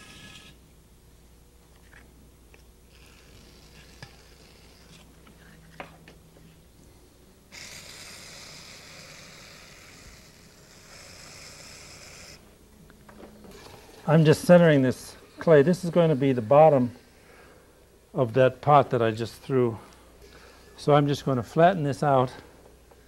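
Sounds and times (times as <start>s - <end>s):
potter's wheel humming: 0.0s - 0.8s, 1.6s - 23.0s.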